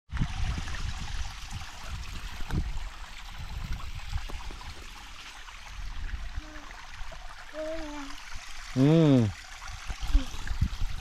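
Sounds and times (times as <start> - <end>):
stream water trickling: 0.1 - 11.0.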